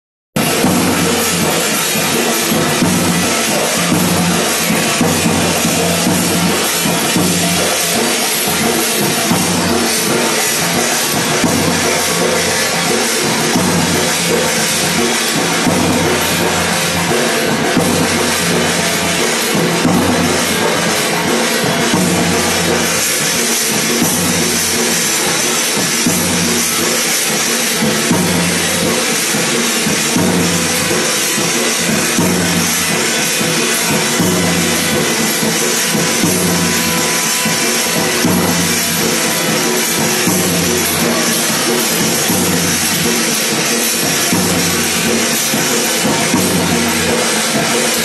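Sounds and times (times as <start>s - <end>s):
drum beaten with a stick: 0.4s - 48.0s.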